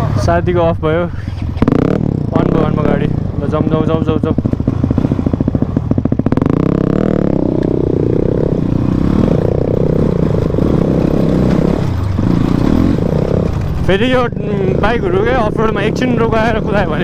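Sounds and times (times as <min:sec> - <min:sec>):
motorcycle engine revving: 0:01.1 - 0:17.0.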